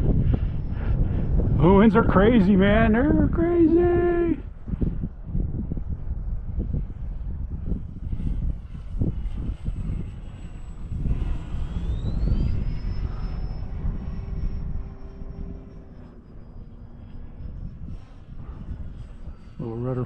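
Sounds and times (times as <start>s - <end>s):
electric motor and propeller whining: 0.0s - 20.0s
wind buffeting microphone: 0.0s - 20.0s.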